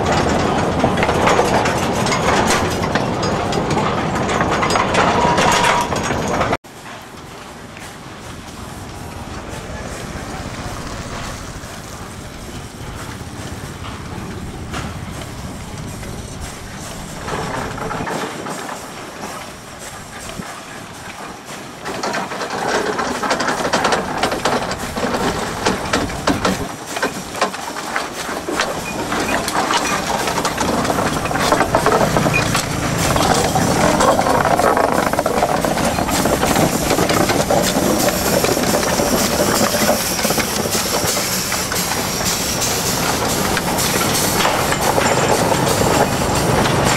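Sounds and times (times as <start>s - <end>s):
locomotive running gear clanking: 0.0s - 46.9s
steam hissing: 6.7s - 46.9s.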